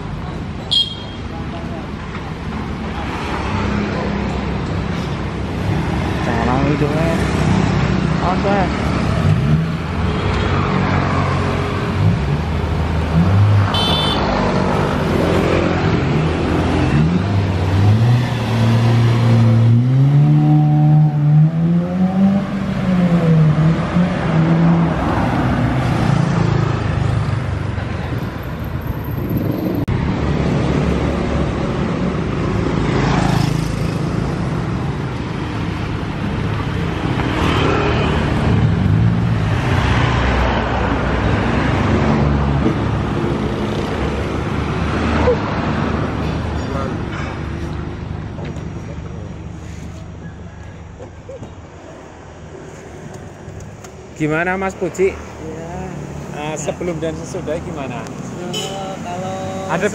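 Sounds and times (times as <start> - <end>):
motorbike traffic: 0.0 - 59.9.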